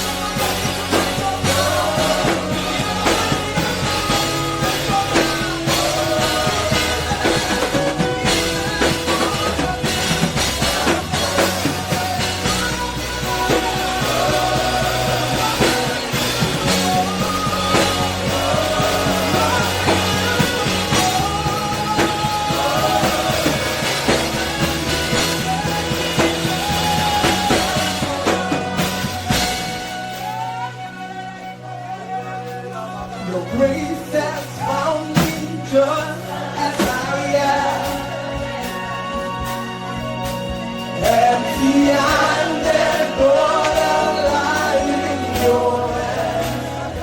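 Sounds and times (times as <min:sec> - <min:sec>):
sliding melody line: 0:00.0 - 0:47.0
worship band playing: 0:00.0 - 0:47.0.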